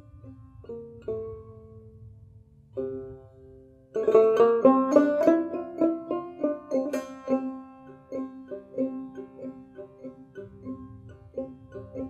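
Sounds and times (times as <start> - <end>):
plucked string chords: 0.0 - 12.0.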